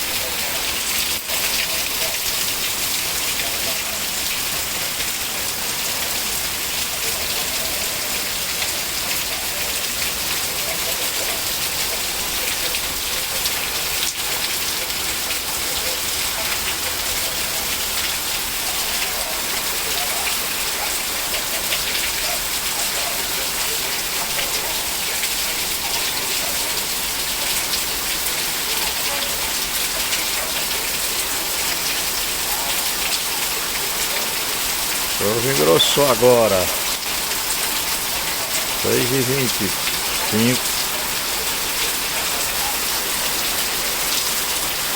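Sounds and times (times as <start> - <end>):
heavy rain pattering: 0.0 - 44.9.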